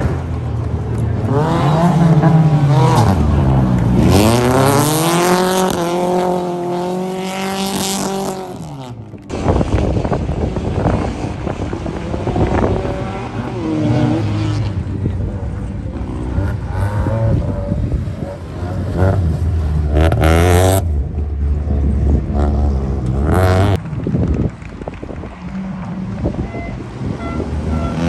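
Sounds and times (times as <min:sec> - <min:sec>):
rally car engine revving: 0:00.0 - 0:23.9.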